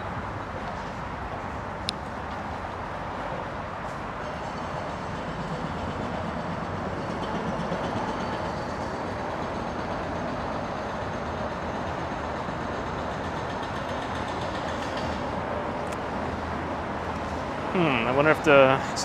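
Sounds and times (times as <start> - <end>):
traffic drone: 0.0 - 19.0.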